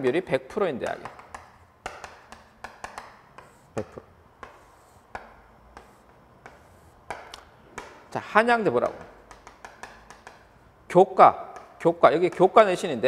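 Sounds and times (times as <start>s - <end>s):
chalk tapping on chalkboard: 0.5s - 10.6s, 11.4s - 13.0s.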